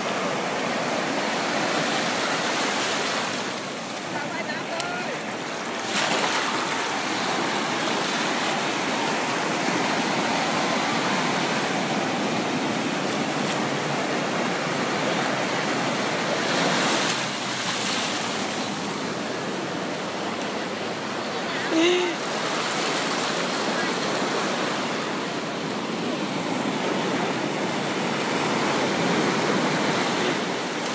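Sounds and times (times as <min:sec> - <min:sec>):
sea surf washing in shallow water: 0:00.0 - 0:30.9.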